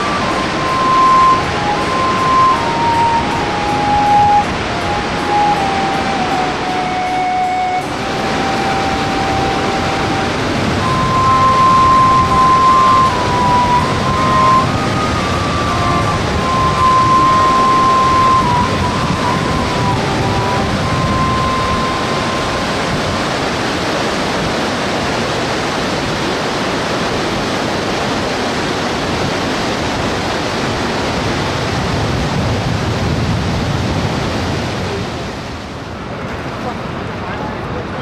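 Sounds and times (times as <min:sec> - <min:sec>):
water rushing over falls: 0:00.0 - 0:38.0.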